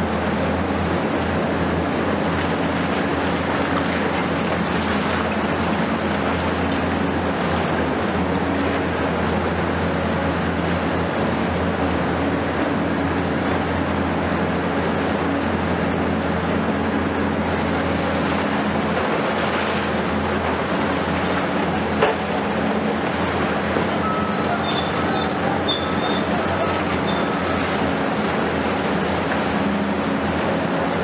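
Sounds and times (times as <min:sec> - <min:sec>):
excavator diesel engines droning: 0:00.0 - 0:31.0.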